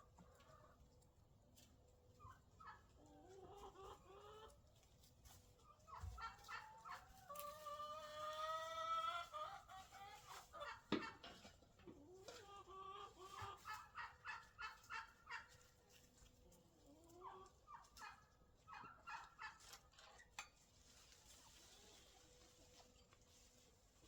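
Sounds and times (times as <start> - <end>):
faint chickens clucking: 0.0 - 24.0.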